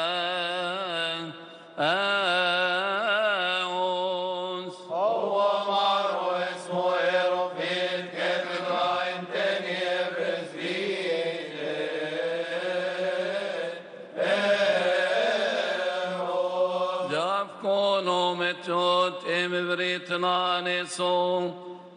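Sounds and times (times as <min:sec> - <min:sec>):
men chanting a hymn: 0:00.0 - 0:21.6.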